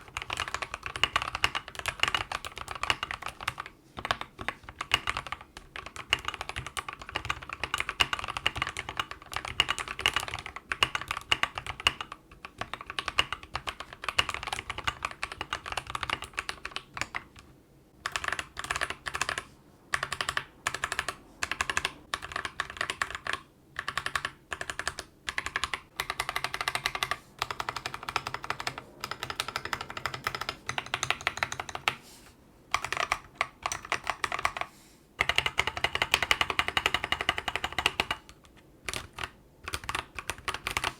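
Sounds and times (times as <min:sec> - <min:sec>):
keystroke runs on keyboard: 0:00.0 - 0:32.0, 0:32.7 - 0:40.9
mechanical keyboard typing: 0:00.0 - 0:32.0, 0:32.7 - 0:40.9.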